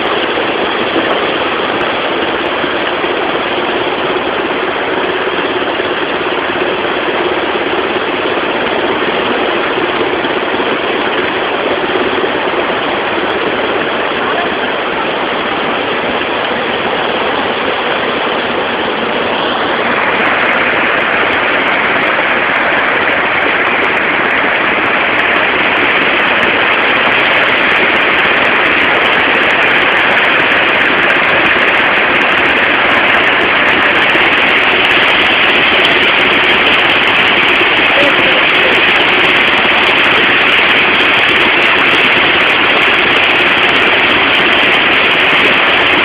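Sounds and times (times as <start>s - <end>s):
rushing river water roar: 0.0s - 46.0s.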